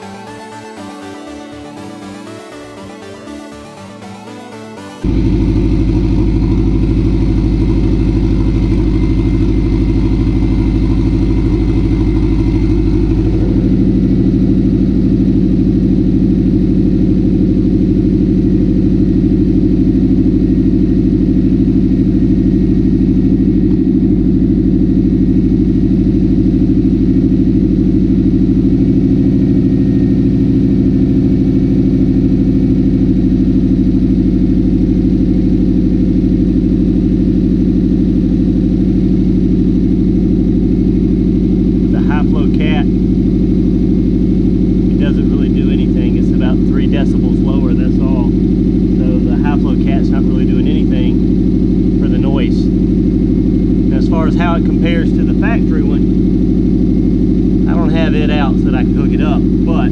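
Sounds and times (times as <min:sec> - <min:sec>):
loud car engine idling: 0:05.0 - 0:59.9.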